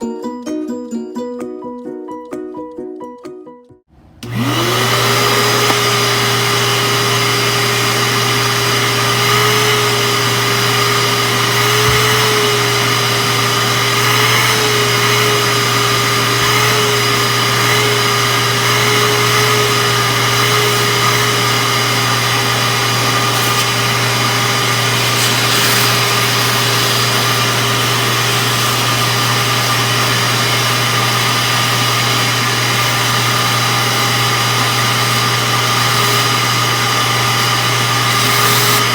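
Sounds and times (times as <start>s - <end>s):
vacuum motor whine: 3.9s - 38.9s.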